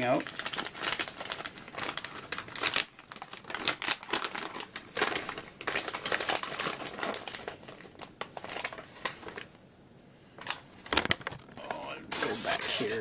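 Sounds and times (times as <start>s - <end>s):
paper crinkling and rustling: 0.0s - 9.6s, 10.4s - 13.0s.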